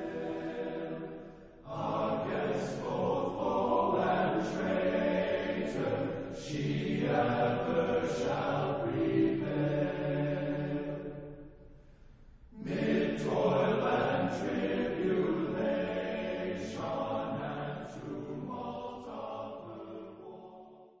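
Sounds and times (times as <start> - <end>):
choir singing: 0.0 - 11.3, 12.6 - 21.0.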